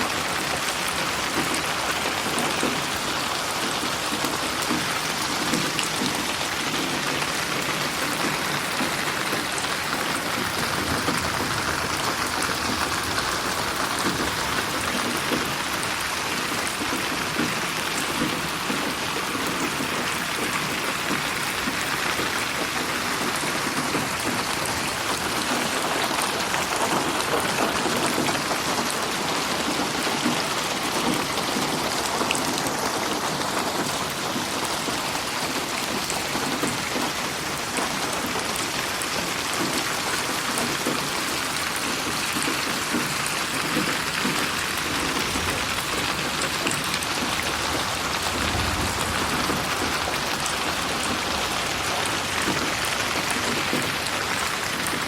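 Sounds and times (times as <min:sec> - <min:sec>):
raindrops pattering on surface: 0:00.0 - 0:55.0
steady rain falling: 0:00.0 - 0:55.0.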